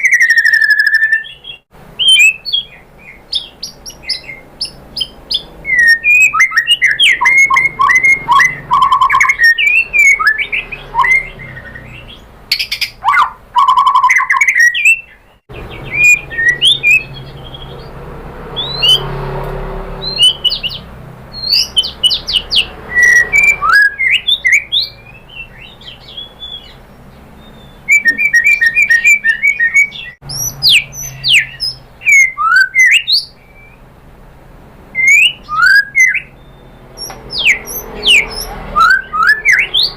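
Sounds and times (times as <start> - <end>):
songbird whistling and trilling: 0.0 - 17.9, 18.5 - 19.1, 20.0 - 33.8, 35.0 - 39.9.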